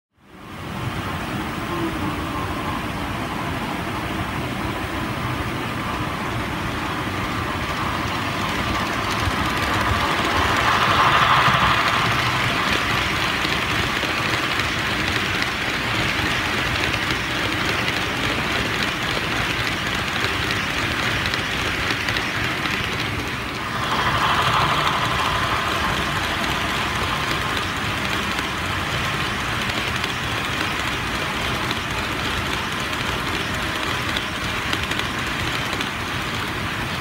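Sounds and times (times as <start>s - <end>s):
model train rolling on track: 0.2s - 37.0s.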